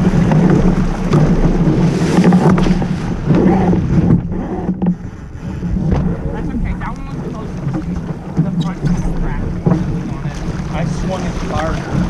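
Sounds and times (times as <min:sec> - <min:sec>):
boat knocks: 0:00.0 - 0:12.0
water rushing along hull: 0:00.0 - 0:12.0
wind buffeting microphone: 0:00.0 - 0:12.0.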